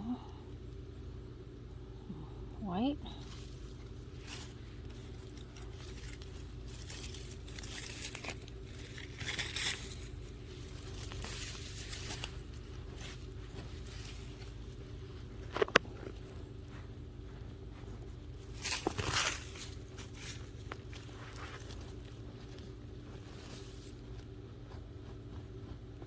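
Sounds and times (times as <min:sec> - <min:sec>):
steady low hum: 0:00.0 - 0:26.0
hands digging in soil: 0:03.2 - 0:26.0.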